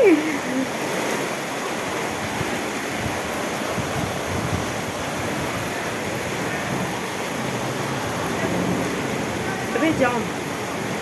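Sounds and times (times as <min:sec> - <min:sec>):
heavy rain and hail pouring: 0:00.0 - 0:11.0.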